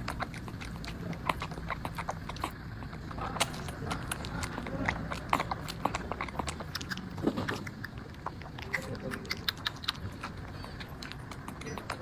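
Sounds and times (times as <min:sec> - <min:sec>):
kitten drinking milk: 0:00.0 - 0:12.0.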